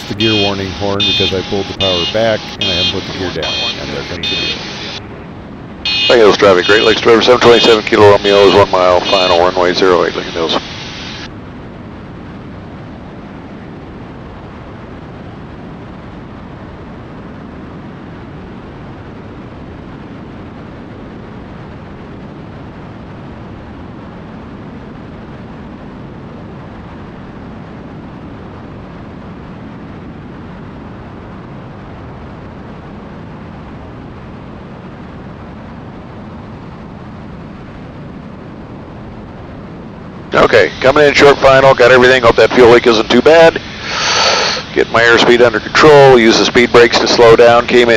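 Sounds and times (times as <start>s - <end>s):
aircraft engines and propellers droning: 0.0s - 47.9s.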